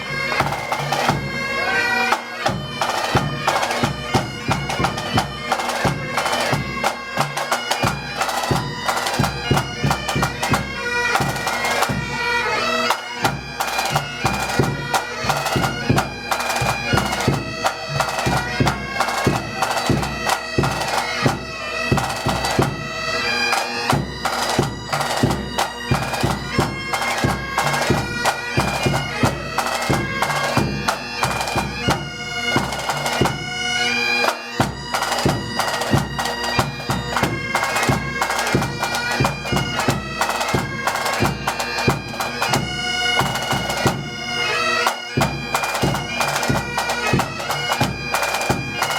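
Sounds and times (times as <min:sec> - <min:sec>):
steady drum beat: 0:00.0 - 0:12.1, 0:13.2 - 0:23.0, 0:23.6 - 0:33.6, 0:34.3 - 0:44.3, 0:45.2 - 0:48.9
bagpipes playing: 0:00.0 - 0:48.9.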